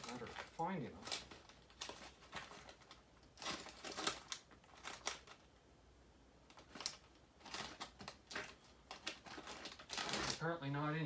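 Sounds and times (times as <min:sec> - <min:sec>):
rummaging through small items: 0:00.0 - 0:05.5, 0:06.5 - 0:10.6.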